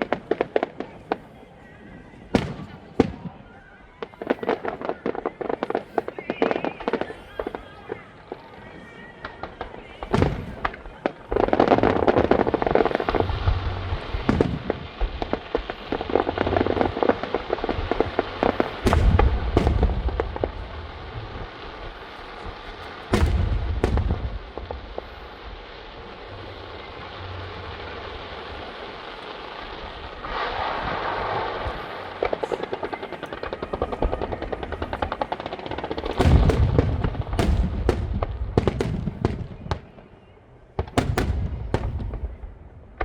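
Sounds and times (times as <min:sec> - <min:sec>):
fireworks crackling: 0:00.0 - 0:43.0
fireworks booming: 0:02.0 - 0:40.2, 0:40.8 - 0:43.0
hissing crackle: 0:04.1 - 0:40.2.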